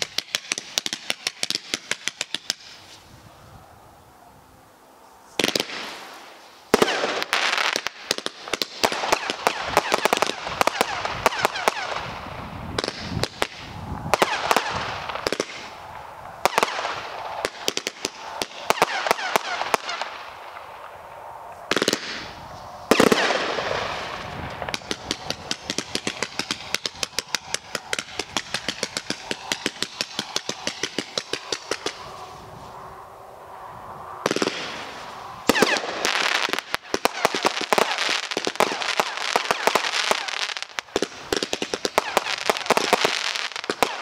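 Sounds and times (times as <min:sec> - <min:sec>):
fireworks launches and bursts: 0:00.0 - 0:03.1, 0:05.4 - 0:32.6, 0:34.2 - 0:44.0.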